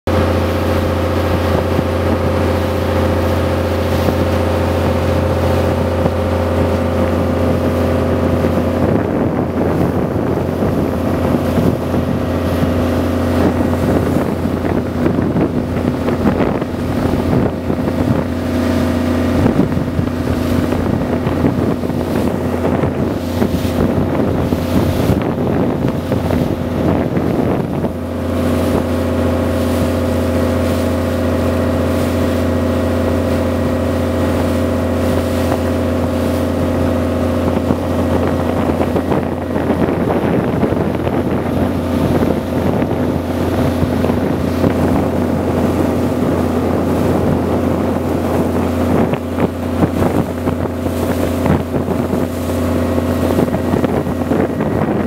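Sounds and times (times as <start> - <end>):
motorboat engine running: 0.0 - 55.0
water rushing along hull: 0.0 - 55.0
wind buffeting microphone: 0.1 - 55.0.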